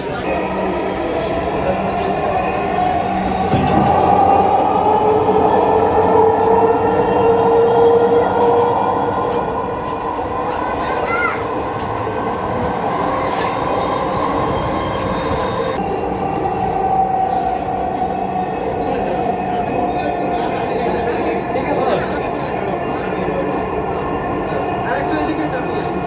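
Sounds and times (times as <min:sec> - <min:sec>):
electric train whine: 0:00.0 - 0:26.0.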